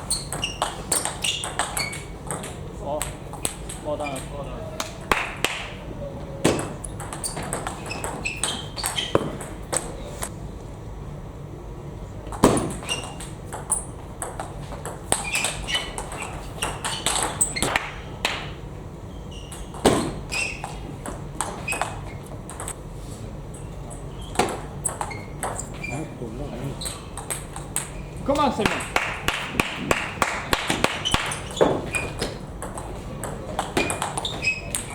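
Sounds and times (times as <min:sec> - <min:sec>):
table tennis balls clicking: 0:00.0 - 0:05.8, 0:06.4 - 0:10.3, 0:12.3 - 0:18.6, 0:19.3 - 0:22.8, 0:23.6 - 0:26.1, 0:26.8 - 0:34.9.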